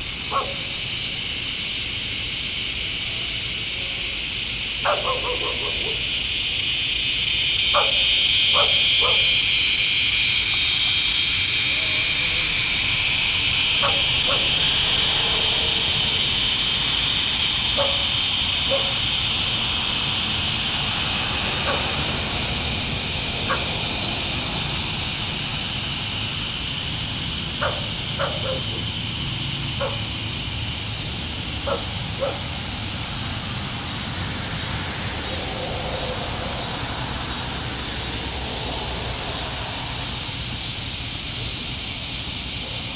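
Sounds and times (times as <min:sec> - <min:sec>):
distant traffic rumble: 0:00.0 - 0:42.9
high-pitched insect buzzing: 0:00.0 - 0:42.9.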